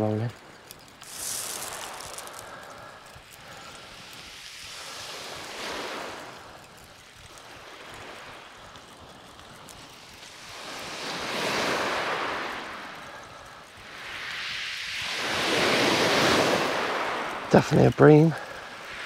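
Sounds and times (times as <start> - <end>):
small waves on shingle beach: 0.0 - 19.0.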